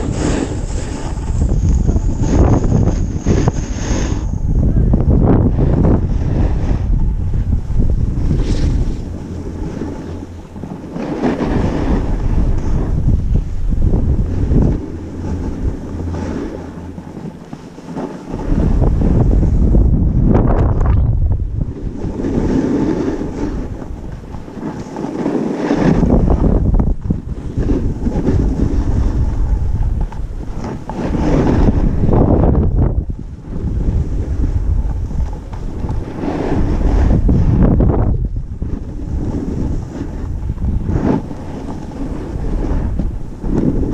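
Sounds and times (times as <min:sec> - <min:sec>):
snowboard scraping on snow: 0:00.0 - 0:43.9
wind rushing over microphone: 0:00.0 - 0:43.9.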